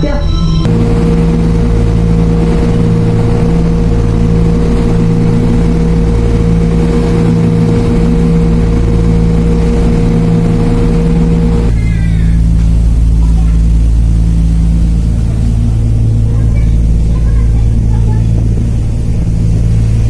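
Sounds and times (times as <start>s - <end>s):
ferry engines droning: 0.0s - 20.0s.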